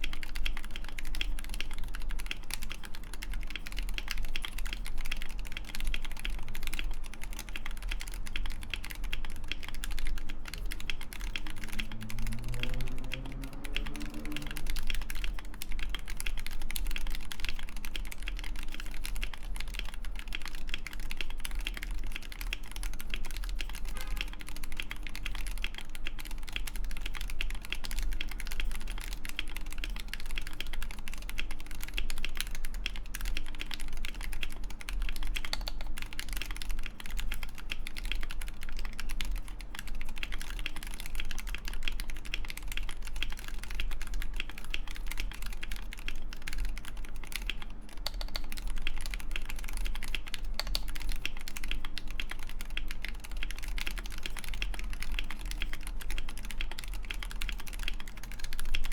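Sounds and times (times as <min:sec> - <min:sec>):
soft deep keyboard clacks: 0:00.0 - 0:58.9.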